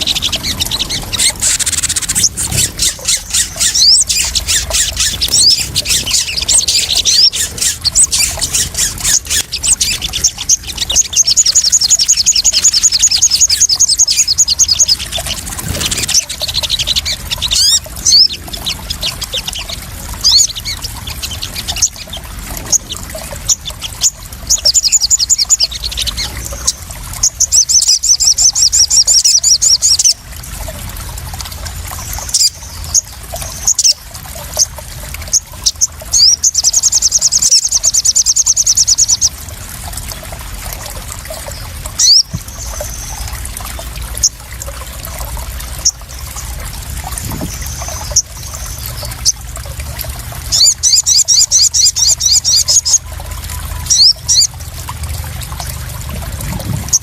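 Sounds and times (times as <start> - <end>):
bird chirps and trills: 0.0 - 30.2, 32.0 - 39.4, 40.7 - 49.7, 50.3 - 57.0
water trickling and splashing: 0.0 - 57.0.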